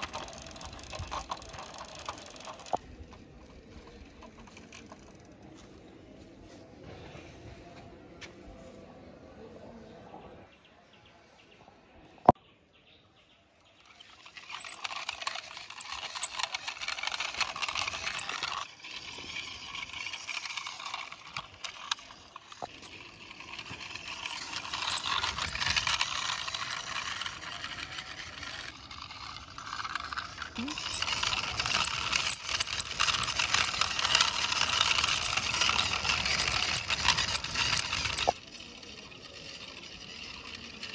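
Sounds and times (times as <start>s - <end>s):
toy truck wheels rolling on concrete: 0.0s - 10.3s, 13.2s - 40.9s.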